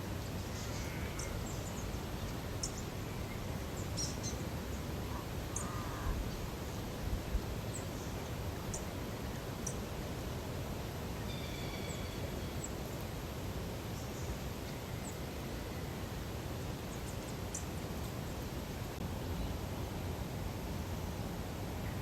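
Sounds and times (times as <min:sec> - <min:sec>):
low rush of background noise: 0:00.0 - 0:22.0.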